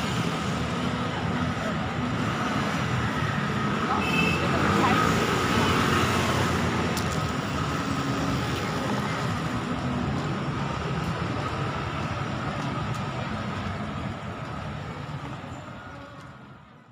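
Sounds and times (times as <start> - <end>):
crowd hubbub: 0.0 - 16.9.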